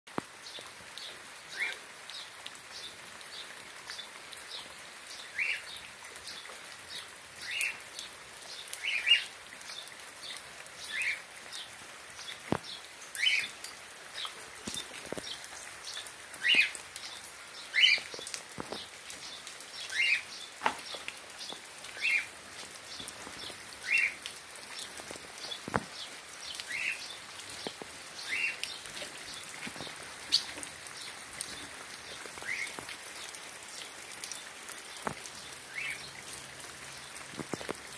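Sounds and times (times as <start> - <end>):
rain hiss: 0.1 - 37.9
sharp water drips: 0.1 - 37.9.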